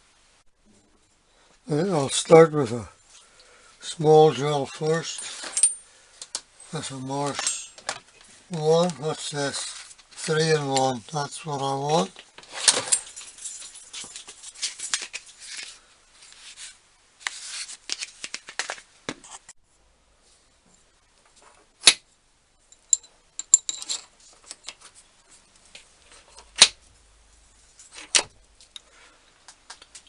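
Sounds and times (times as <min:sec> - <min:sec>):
rustling and scraping of tools: 0:02.6 - 0:19.6, 0:20.2 - 0:21.8, 0:22.6 - 0:30.0.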